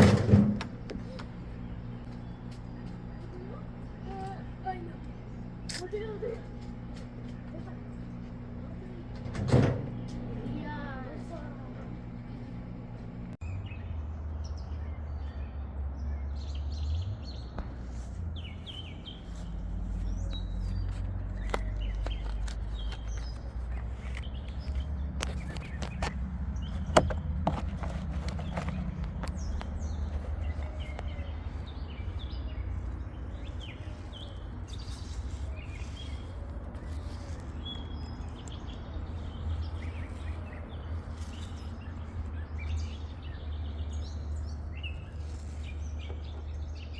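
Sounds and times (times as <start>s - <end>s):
birds chirping: 0.0s - 46.9s.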